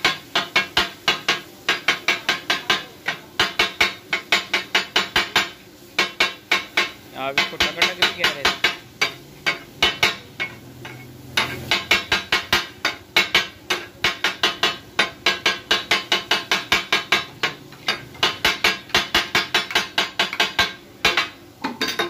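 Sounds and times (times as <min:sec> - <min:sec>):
metal spatulas chopping on griddle: 0:00.0 - 0:22.0.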